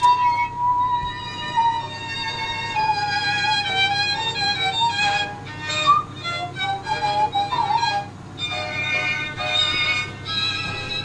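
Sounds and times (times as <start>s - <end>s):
violin melody in held notes: 0.0s - 11.0s.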